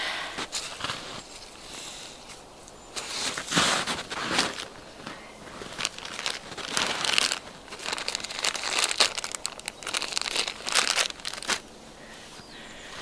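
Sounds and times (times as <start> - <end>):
bag crinkling and rustling: 0.4 - 11.8.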